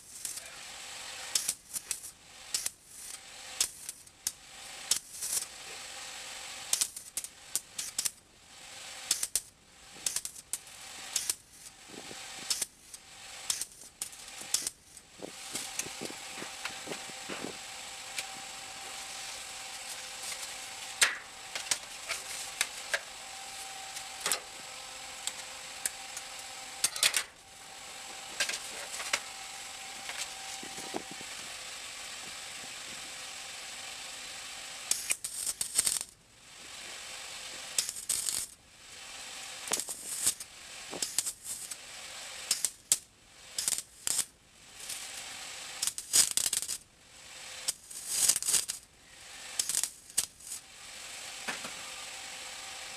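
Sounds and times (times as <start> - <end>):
welder crackling: 0.0 - 52.9.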